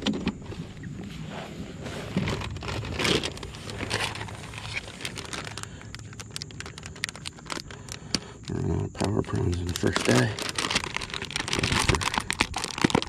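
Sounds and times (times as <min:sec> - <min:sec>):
plastic bag crinkling: 0:02.2 - 0:13.0.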